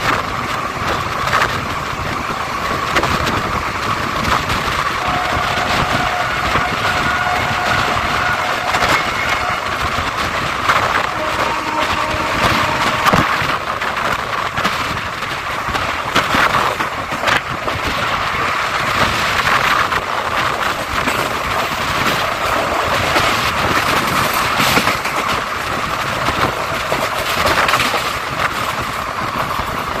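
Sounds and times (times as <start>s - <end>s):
train wheels on rails: 0.0s - 30.0s
wheels clacking over track: 0.0s - 30.0s
wind rushing: 0.0s - 30.0s.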